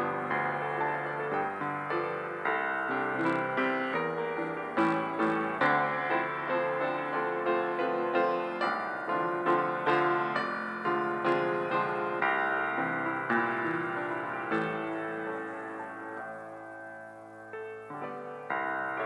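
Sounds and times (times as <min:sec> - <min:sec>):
slow gentle piano piece: 0:00.0 - 0:19.0.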